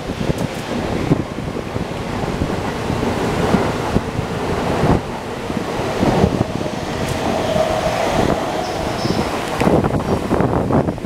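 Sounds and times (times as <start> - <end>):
electric train rolling past: 0.0 - 11.0.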